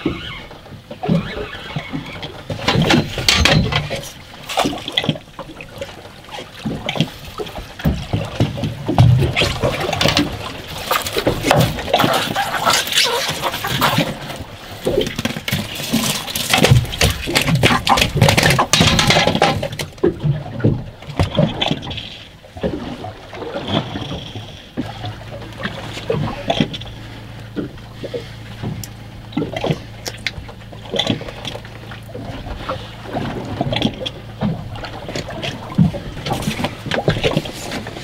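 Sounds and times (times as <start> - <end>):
low steady hum: 0.0 - 38.0
water slapping boat hull: 0.0 - 38.0.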